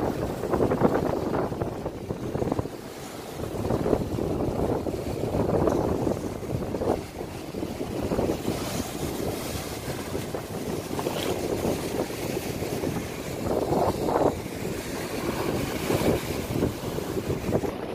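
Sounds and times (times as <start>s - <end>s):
surf breaking over rocks: 0.0s - 17.9s
wind buffeting microphone: 0.0s - 17.9s.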